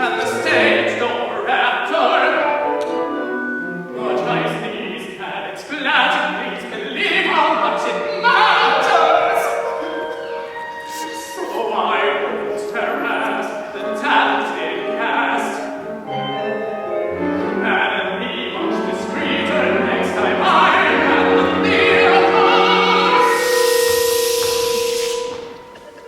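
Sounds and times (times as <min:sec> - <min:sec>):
operatic singing: 0:00.0 - 0:26.0
instrumental accompaniment: 0:02.0 - 0:05.2, 0:07.1 - 0:26.0.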